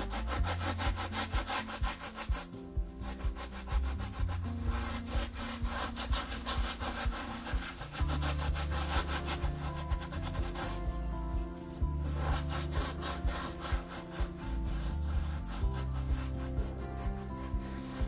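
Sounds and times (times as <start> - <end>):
background music: 0.0 - 18.0
scrubbing pad rasping on tile floor: 0.0 - 18.0.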